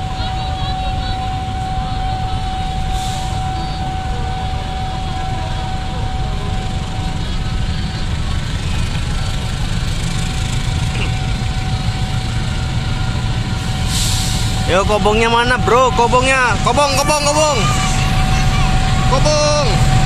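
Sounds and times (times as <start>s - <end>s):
locomotive engine rumble: 0.0s - 20.0s.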